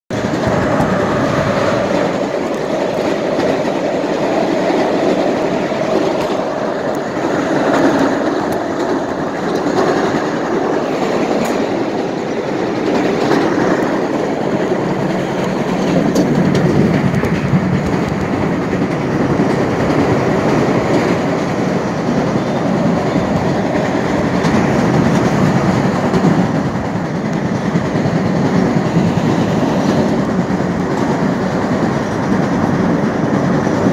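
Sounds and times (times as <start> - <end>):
train wheels on rails: 0.1 - 33.9.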